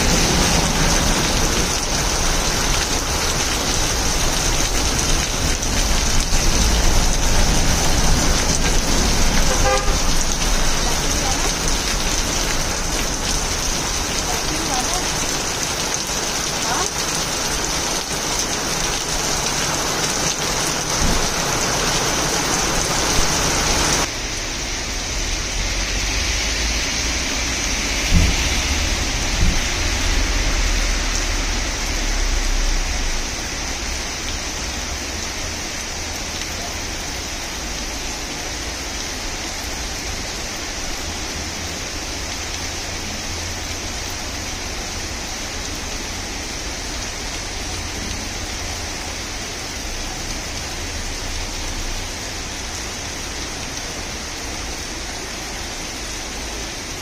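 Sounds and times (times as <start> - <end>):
rain on wet pavement: 0.0 - 57.0.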